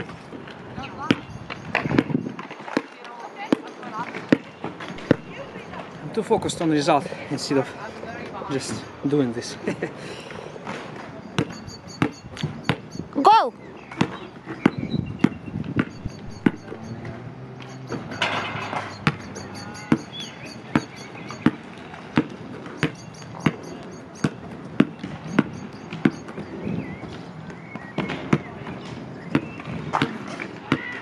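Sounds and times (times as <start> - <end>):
basketball bouncing on asphalt: 0.0 - 6.0, 10.7 - 31.0.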